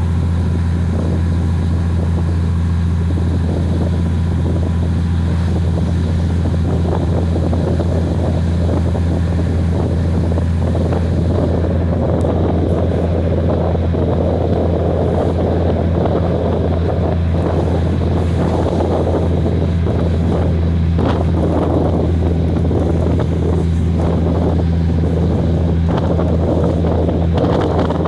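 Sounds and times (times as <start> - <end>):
rushing wind and running noise: 0.0 - 28.0
train engine drone: 0.0 - 28.0.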